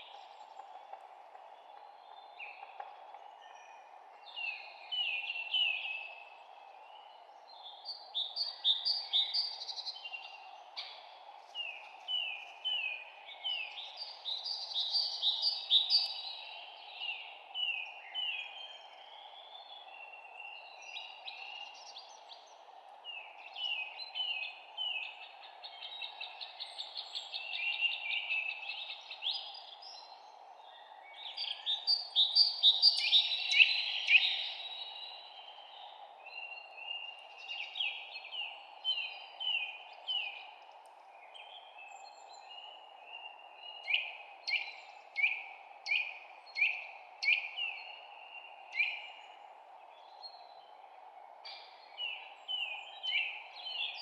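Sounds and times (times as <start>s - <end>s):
low background hiss: 0.0s - 54.0s
songbirds chirping: 0.0s - 54.0s.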